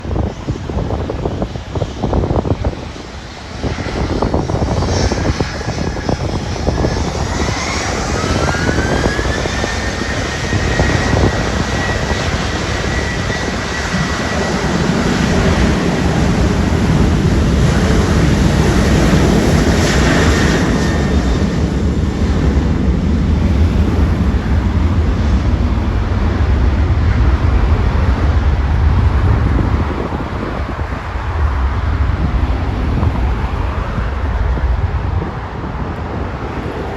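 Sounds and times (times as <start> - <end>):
deep jet rumble: 0.0 - 36.9
jet engine whine: 0.0 - 36.9.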